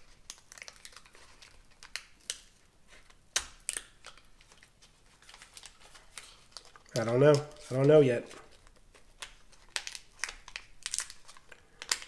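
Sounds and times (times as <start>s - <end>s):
waxed paper wrapper crinkling: 0.0s - 12.0s.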